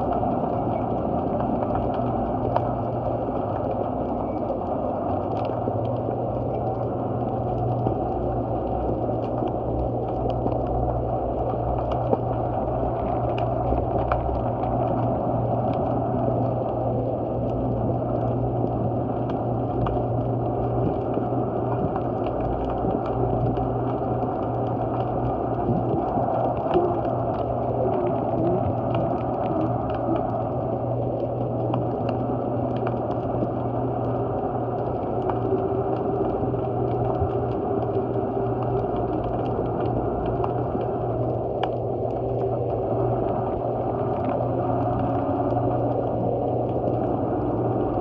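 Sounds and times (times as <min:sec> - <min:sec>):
underwater low hum: 0:00.0 - 0:48.0
underwater rumbling noise: 0:00.0 - 0:48.0.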